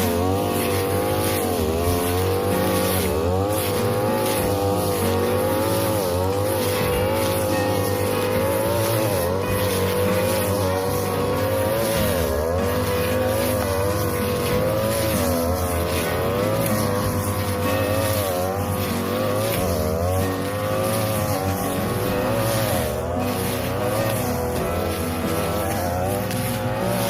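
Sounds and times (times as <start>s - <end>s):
brush cutter at high revs: 0.0s - 27.0s.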